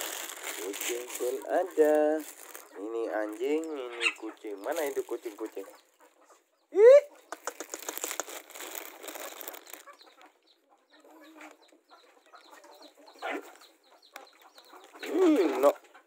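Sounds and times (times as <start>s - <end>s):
scratching on dirt ground: 0.0s - 6.4s, 7.2s - 16.0s
chickens clucking: 0.1s - 16.0s.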